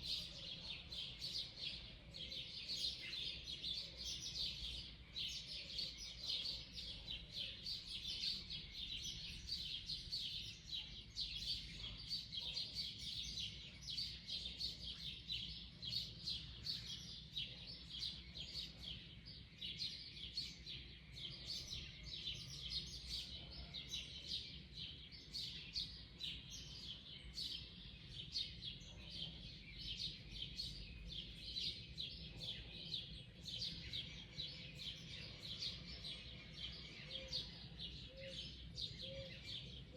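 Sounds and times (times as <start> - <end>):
wild birds chirping and singing: 0.0 - 39.9.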